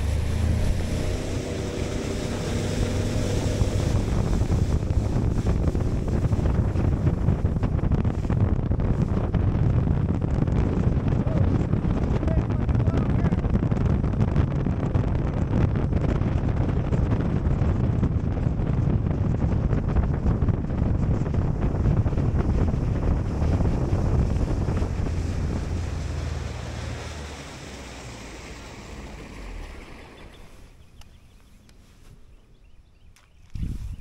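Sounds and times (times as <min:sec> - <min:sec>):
water rushing along hull: 0:00.0 - 0:32.0
wind buffeting microphone: 0:00.0 - 0:34.0.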